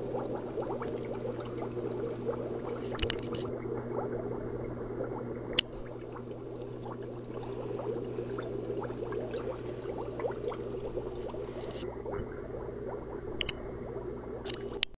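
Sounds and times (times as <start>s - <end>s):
filter bubbling: 0.0s - 15.0s
steady low hum: 0.0s - 15.0s
trickling water: 0.0s - 15.0s.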